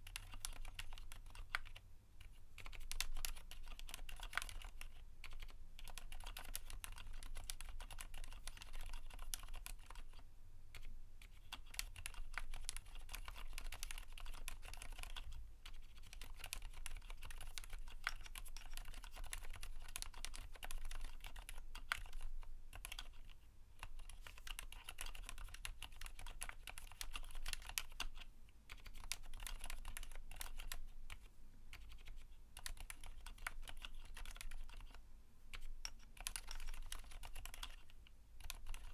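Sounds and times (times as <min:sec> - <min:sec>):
soft mechanical keyboard typing: 0:00.0 - 0:38.9.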